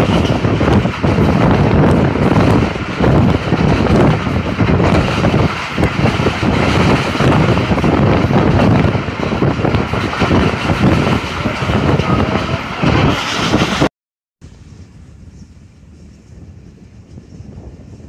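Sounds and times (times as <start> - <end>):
train rumbling on track: 0.0 - 13.9, 14.5 - 18.0
wind buffeting microphone: 0.0 - 18.0.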